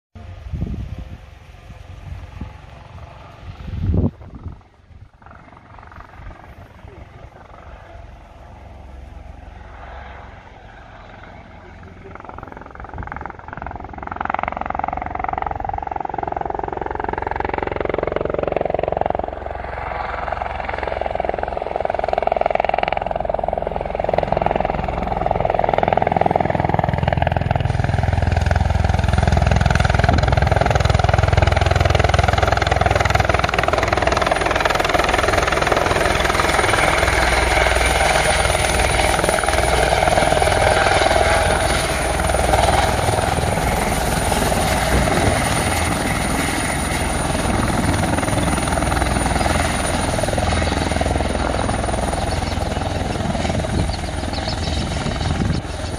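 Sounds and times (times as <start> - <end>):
helicopter rotor noise: 0.2 - 55.9
high turbine whine: 0.2 - 55.9.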